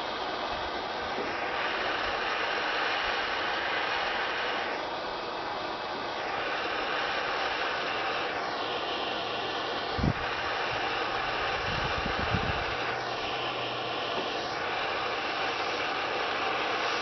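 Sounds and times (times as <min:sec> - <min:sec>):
propane torch hissing: 0:00.0 - 0:17.0.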